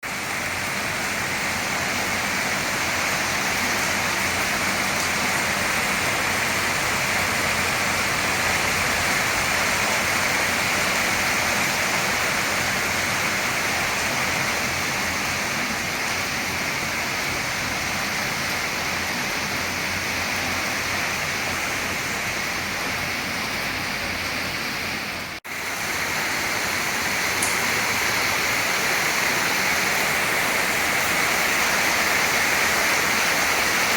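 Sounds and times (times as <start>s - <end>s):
dense rain falling: 0.0s - 33.9s.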